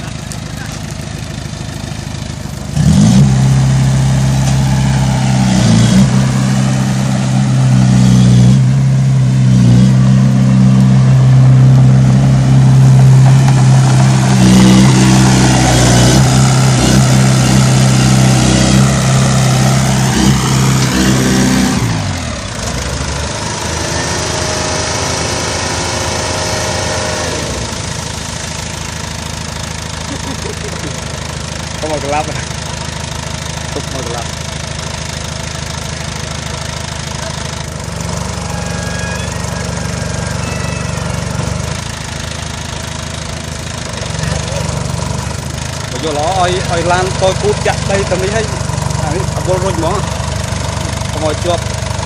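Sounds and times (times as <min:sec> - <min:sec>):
bulldozer diesel engine revving: 0:00.0 - 0:52.0.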